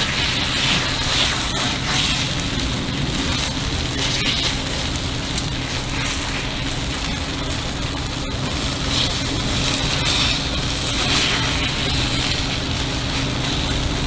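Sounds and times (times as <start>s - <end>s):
batter sizzling on griddle: 0.0s - 14.0s.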